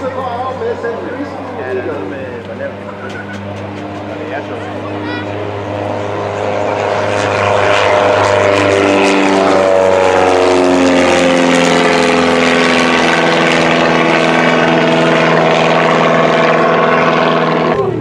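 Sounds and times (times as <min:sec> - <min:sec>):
propeller plane passing: 0:00.0 - 0:18.0.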